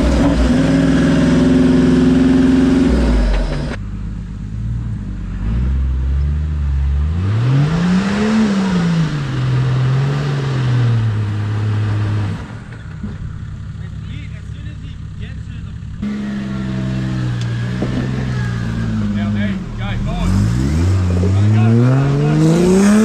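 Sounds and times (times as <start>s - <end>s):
engine revving: 0.0s - 3.8s, 4.6s - 23.0s
vehicle engine running under load: 0.0s - 7.2s, 7.8s - 23.0s.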